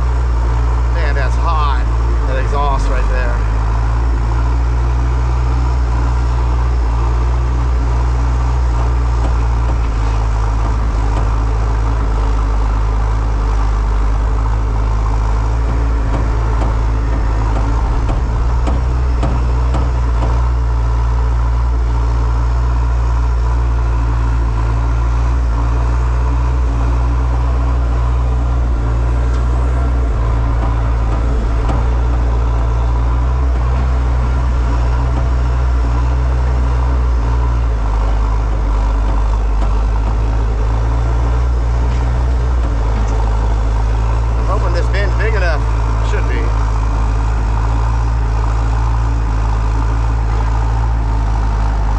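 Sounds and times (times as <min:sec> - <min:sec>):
large engine rumbling: 0:00.0 - 0:51.9.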